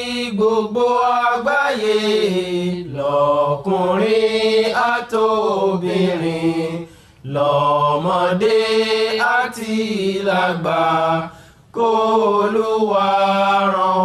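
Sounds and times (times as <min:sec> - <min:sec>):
voices chanting a religious song: 0:00.0 - 0:14.0.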